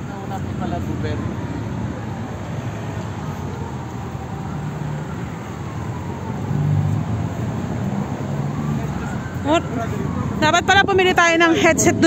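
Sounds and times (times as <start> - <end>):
car engines and tyre noise: 0.0 - 12.0.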